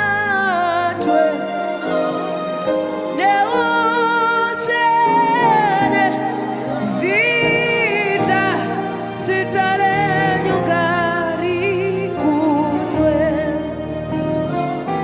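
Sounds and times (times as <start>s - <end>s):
person singing long wavering notes: 0.0s - 15.0s
sustained chords: 0.0s - 15.0s.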